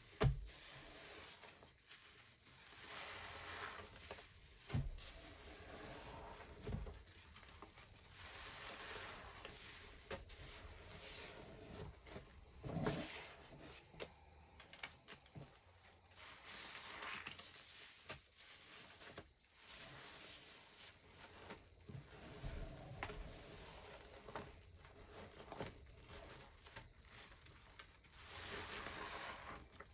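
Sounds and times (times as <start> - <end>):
sponges squishing in foamy paste: 0.0 - 29.9.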